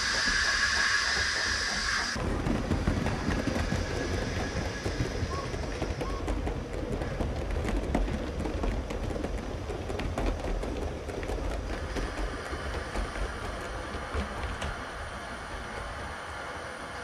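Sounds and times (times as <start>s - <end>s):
low train rumble: 0.0s - 17.0s
model train wheels clicking: 0.0s - 17.0s.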